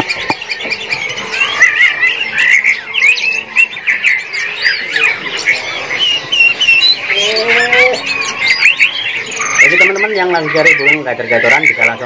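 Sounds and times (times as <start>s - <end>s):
songbirds whistling and chirping: 0.0s - 12.0s.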